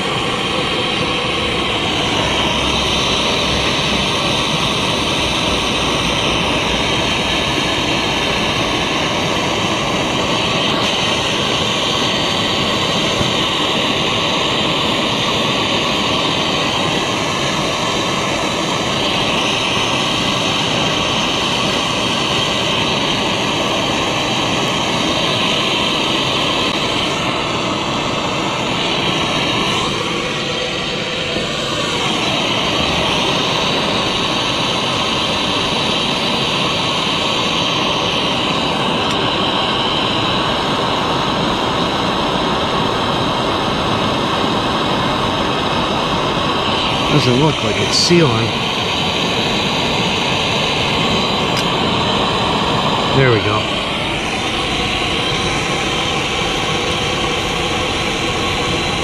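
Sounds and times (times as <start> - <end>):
gas torch flame hissing: 0.0 - 59.0.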